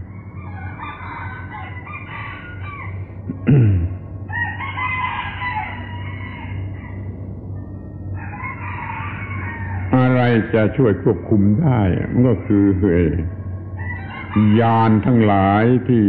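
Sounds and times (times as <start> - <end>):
roosters crowing: 0.0 - 3.3, 4.0 - 16.0
tape recording hum: 0.0 - 16.0.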